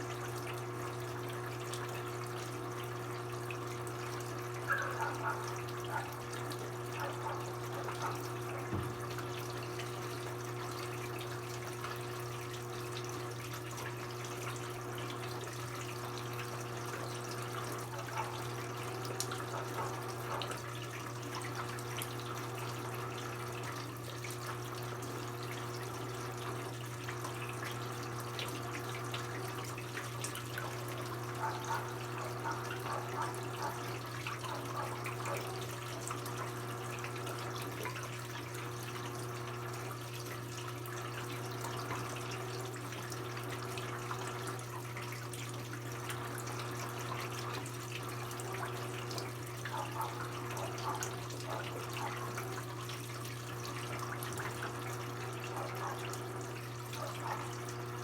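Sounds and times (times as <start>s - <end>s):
water splashing in washing machine: 0.0s - 58.0s.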